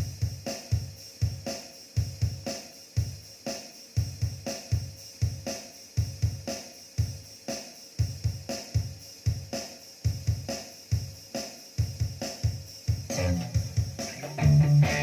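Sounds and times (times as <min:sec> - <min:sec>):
drum machine beat: 0:00.0 - 0:15.0.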